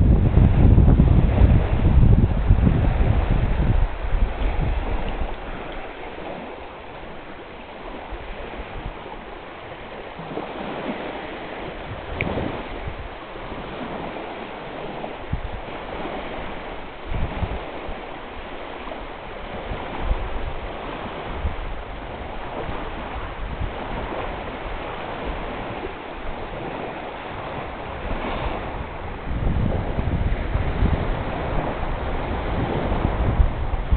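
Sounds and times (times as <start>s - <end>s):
strong wind over water: 0.0s - 33.9s
waves splashing: 0.0s - 33.9s
wind rumbling on microphone: 0.0s - 33.9s.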